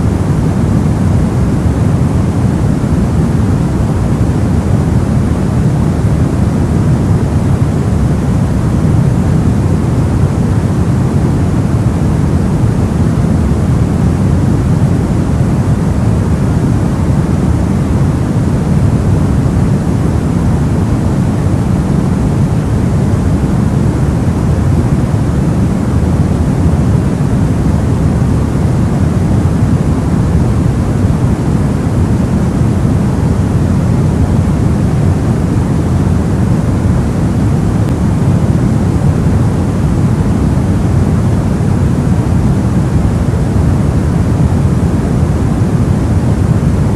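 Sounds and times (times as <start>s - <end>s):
soft white noise: 0.0s - 46.9s.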